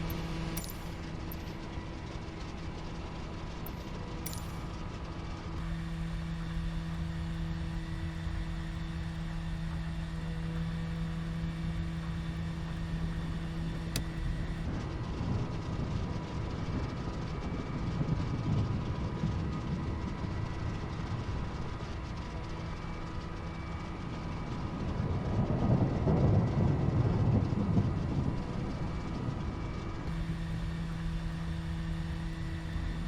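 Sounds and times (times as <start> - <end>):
piston aircraft engines droning: 0.0 - 33.0
rough rumble and rattle: 0.0 - 33.0.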